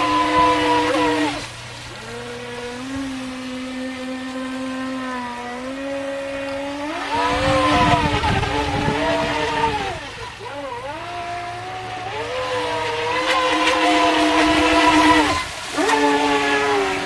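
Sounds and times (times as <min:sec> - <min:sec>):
electric motor whining: 0:00.0 - 0:17.0
rushing water noise: 0:00.0 - 0:17.0.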